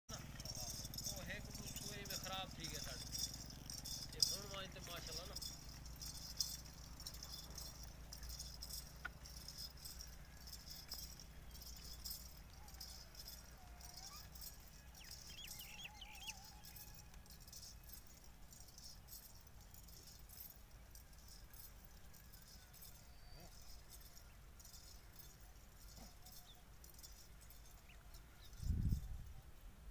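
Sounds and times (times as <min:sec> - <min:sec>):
faint wavering goat call: 0:00.1 - 0:19.4, 0:20.9 - 0:28.5
goat hooves clicking and rattling: 0:00.1 - 0:29.4
low steady rumble: 0:00.1 - 0:29.9.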